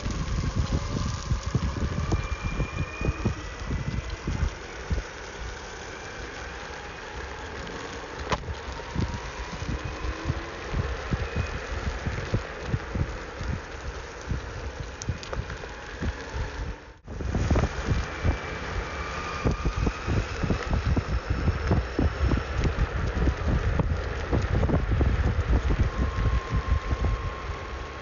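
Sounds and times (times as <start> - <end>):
faint electric motor whine: 0.0 - 28.0
skateboard wheels rumbling on asphalt: 0.0 - 28.0
wind buffeting microphone: 0.0 - 28.0.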